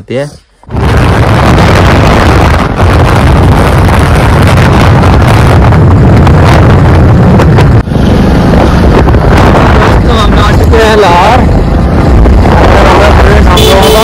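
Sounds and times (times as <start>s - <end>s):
moving vehicle rumble: 0.0s - 14.0s
wind buffeting microphone: 0.6s - 14.0s.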